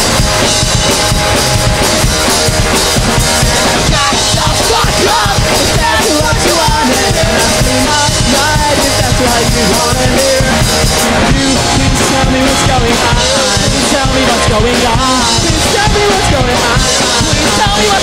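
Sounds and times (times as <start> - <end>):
drum kit: 0.0 - 18.0
punk rock band playing live: 0.0 - 18.0
person singing: 3.4 - 18.0.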